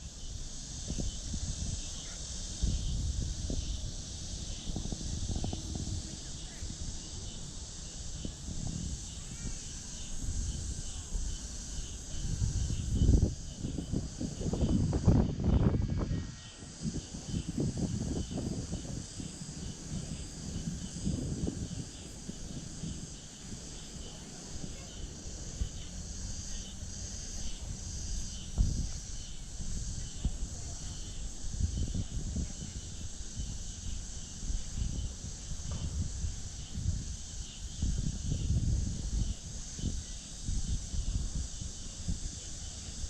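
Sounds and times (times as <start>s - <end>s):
insects chirring: 0.0s - 43.0s
low uneven rumble: 0.0s - 43.0s.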